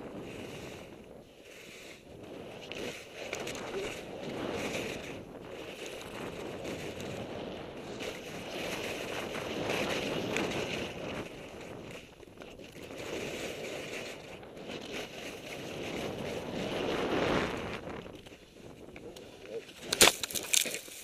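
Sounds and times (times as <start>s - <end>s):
skis scraping over snow: 0.0s - 21.0s
wind rushing over microphone: 0.0s - 21.0s.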